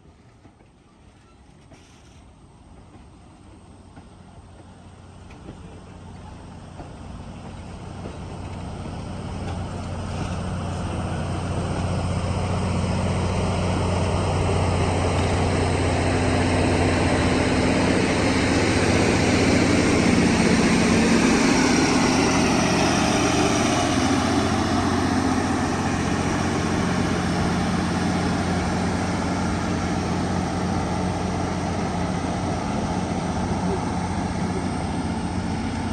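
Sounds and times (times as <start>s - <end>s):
steam locomotives exhaust beats: 0.0s - 35.9s.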